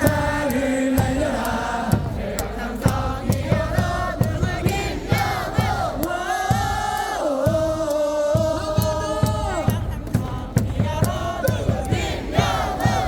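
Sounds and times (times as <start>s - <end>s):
amplified music with drum beat: 0.0s - 13.0s
crowd chanting in unison: 0.0s - 13.0s.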